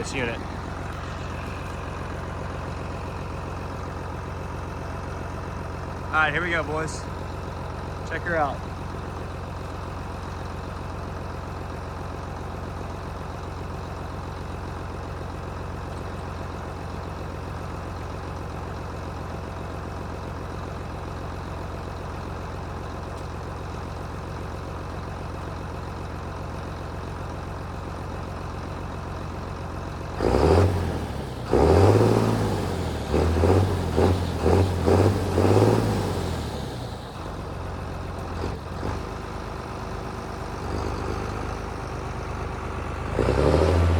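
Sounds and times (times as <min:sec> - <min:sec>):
tractor diesel engine idling and revving: 0:00.0 - 0:43.9.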